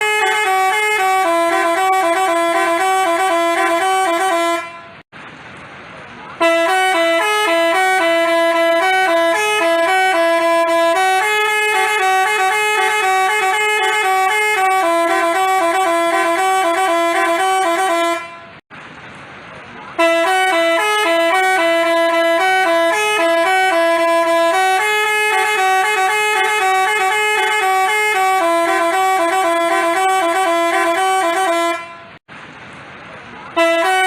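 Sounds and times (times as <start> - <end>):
musical bus horn tune: 0.0 - 5.1, 6.4 - 18.6, 20.0 - 32.3, 33.6 - 34.0.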